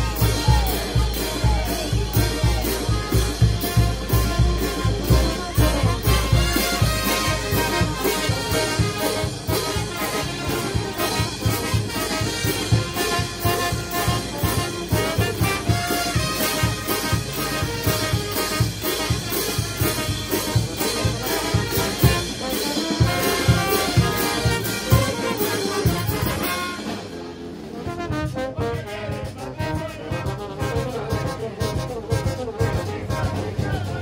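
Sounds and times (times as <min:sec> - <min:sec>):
bass drum and cymbals: 0:00.0 - 0:34.0
brass band playing: 0:00.0 - 0:34.0.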